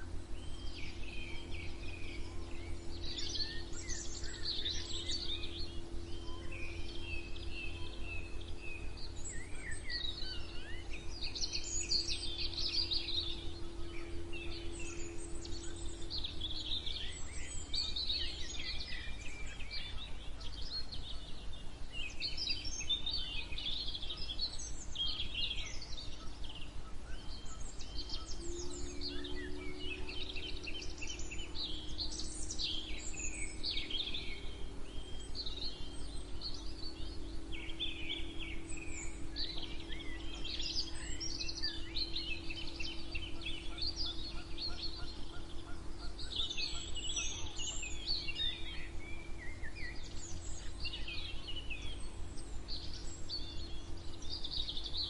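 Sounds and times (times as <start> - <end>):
low steady hum: 0.0 - 55.0
songbirds singing: 0.0 - 55.0.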